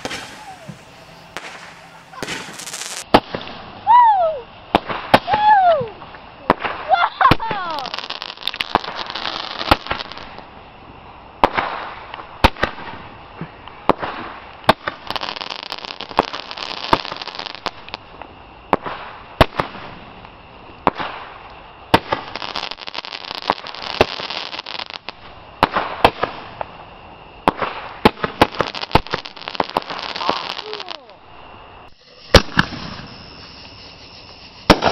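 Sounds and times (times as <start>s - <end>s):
fireworks bangs: 0.0s - 10.7s, 11.4s - 34.9s
fireworks hissing: 0.0s - 34.9s.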